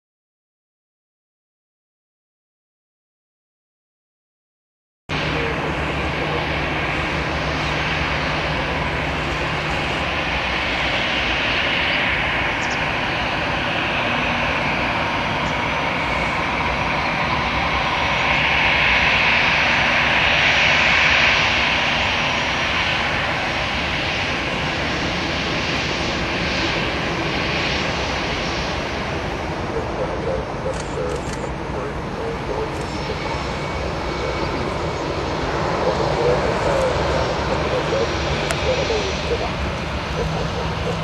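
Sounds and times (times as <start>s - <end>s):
jet engines roaring: 5.1s - 41.0s.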